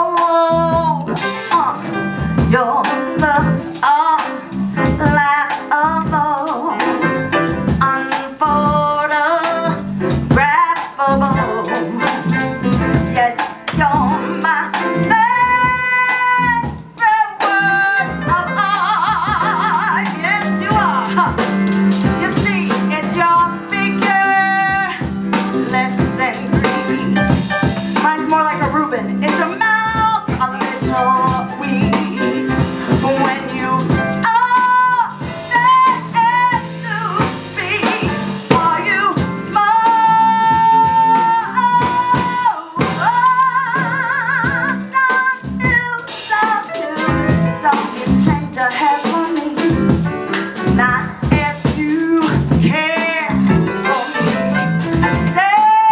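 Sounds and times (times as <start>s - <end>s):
band accompaniment: 0.0s - 55.9s.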